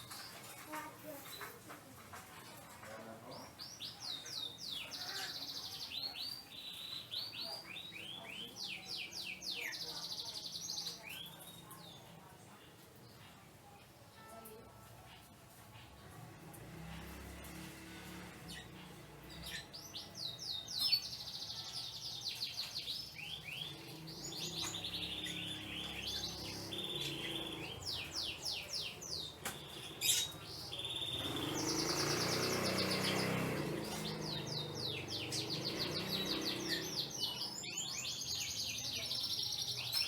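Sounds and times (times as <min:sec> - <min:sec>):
canaries singing and trilling: 0:00.0 - 0:40.0.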